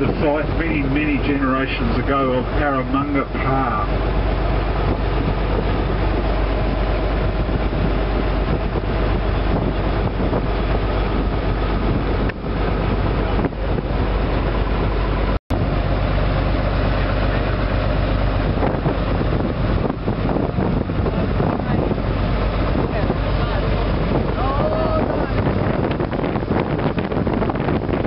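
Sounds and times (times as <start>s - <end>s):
boat engine droning: 0.0s - 28.0s
water noise: 0.0s - 28.0s
wind: 0.0s - 28.0s.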